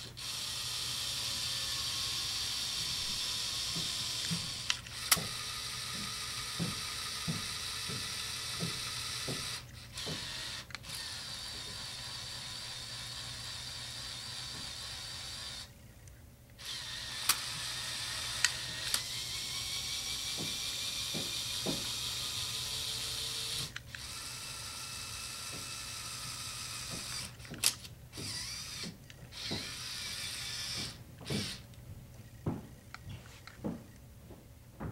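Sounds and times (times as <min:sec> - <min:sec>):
electric motors whirring: 0:00.0 - 0:34.0.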